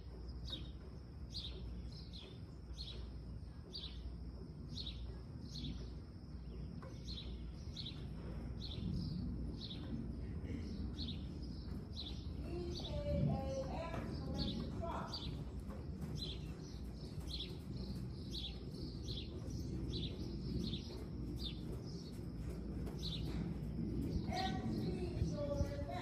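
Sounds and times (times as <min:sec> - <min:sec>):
bird chirping: 0:00.0 - 0:26.0
low background noise: 0:00.0 - 0:26.0.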